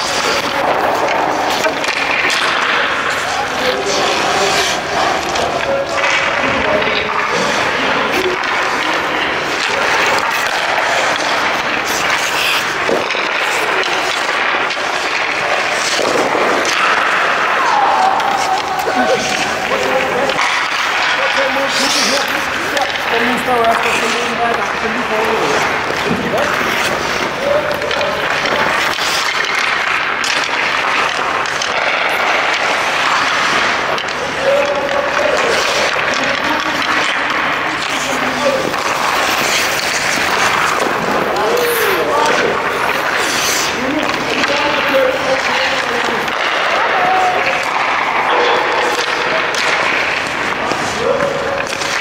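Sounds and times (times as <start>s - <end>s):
pucks hitting the boards: 0.0s - 52.0s
skate blades scraping ice: 0.0s - 52.0s
sticks striking pucks: 0.0s - 52.0s.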